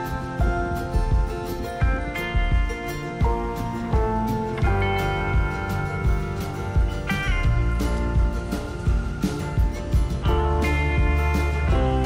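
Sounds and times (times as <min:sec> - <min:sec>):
acoustic guitar music with beat: 0:00.0 - 0:12.0.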